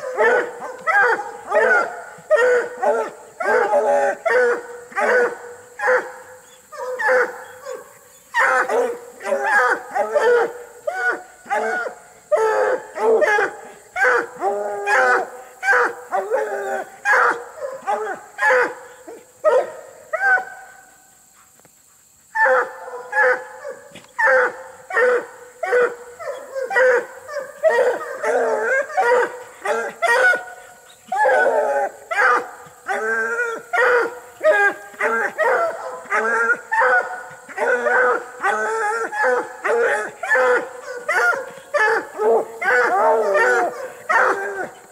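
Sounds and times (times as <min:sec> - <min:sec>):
hounds barking and baying: 0:00.0 - 0:44.9.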